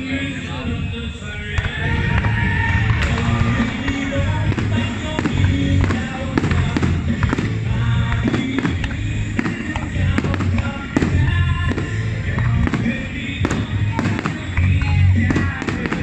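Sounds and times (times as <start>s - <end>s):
music playing: 0.0s - 16.0s
firework bangs: 2.7s - 16.0s.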